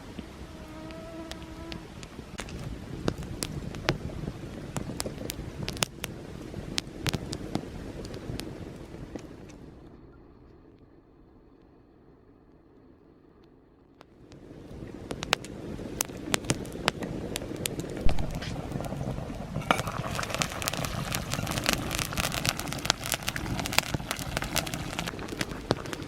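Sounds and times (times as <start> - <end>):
steady hiss: 0.0 - 9.9, 14.1 - 26.0
campfire wood crackling and popping: 0.0 - 10.0, 13.4 - 26.0.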